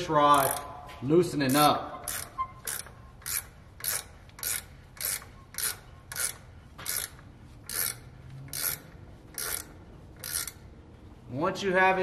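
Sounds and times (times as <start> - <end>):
ratchet wrench rasping: 0.2 - 0.8, 1.4 - 10.8.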